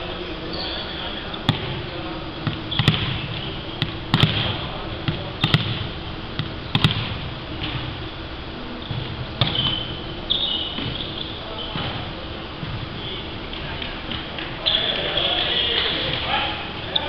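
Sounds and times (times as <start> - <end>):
indoor hall background noise: 0.0 - 17.0.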